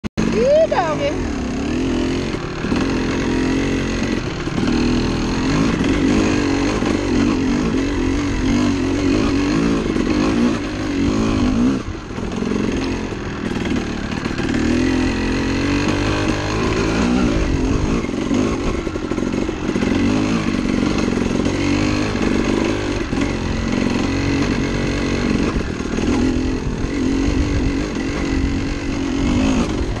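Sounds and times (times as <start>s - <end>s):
dirt bike engine revving: 0.2s - 30.0s.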